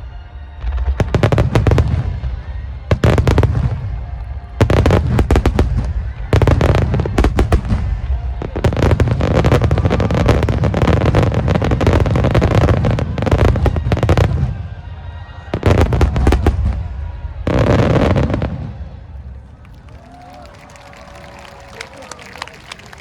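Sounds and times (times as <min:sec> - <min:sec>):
firework booms and crackle: 0:00.5 - 0:19.4.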